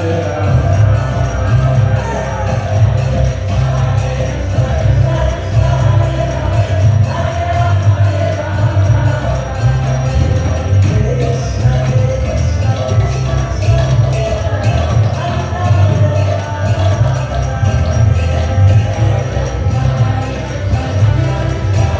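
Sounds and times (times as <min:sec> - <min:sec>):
group chanting: 0:00.0 - 0:21.9
jingling hand percussion: 0:00.0 - 0:21.9
steady pulsing beat: 0:00.0 - 0:21.9.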